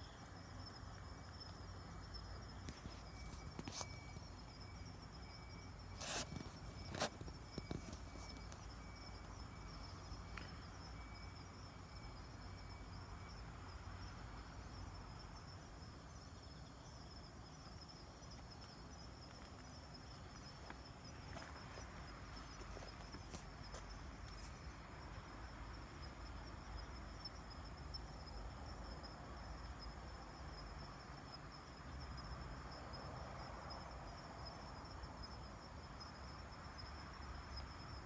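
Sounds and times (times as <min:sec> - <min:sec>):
cricket chirps: 0:00.0 - 0:38.0
high insect trill: 0:00.0 - 0:38.0.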